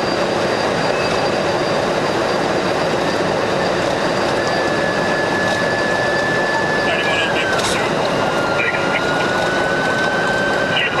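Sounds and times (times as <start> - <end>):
car road and engine noise: 0.0 - 11.0
steady high tone: 0.0 - 11.0.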